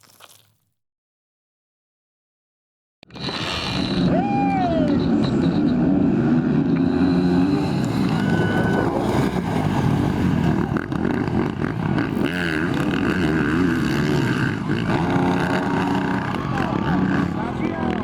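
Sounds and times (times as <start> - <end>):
dirt bike engines revving: 3.1 - 18.0.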